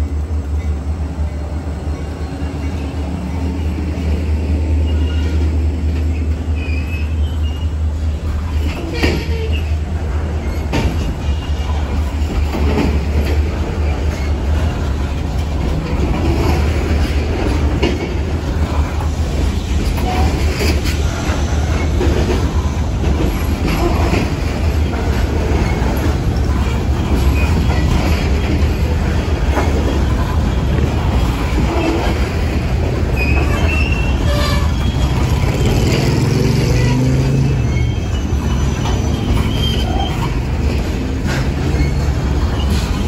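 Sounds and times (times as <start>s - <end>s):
freight train rumbling: 0.0s - 43.0s
wheels clacking over rail joints: 0.0s - 43.0s.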